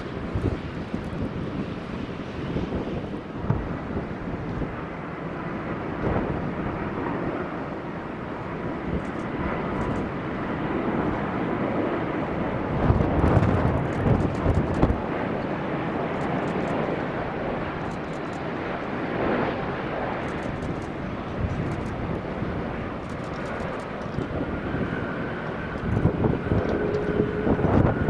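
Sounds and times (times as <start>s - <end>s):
jet airliner engine roar: 0.0s - 28.0s
wind buffeting microphone: 0.0s - 28.0s.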